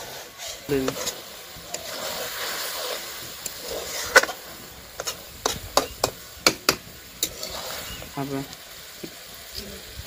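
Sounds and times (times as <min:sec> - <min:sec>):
curry sizzling in pan: 0:00.0 - 0:10.0.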